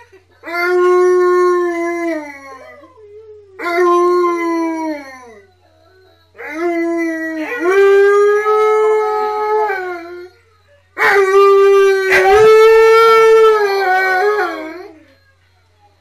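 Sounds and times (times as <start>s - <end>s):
dog howling: 0.4s - 5.5s, 6.4s - 10.3s, 11.0s - 15.0s.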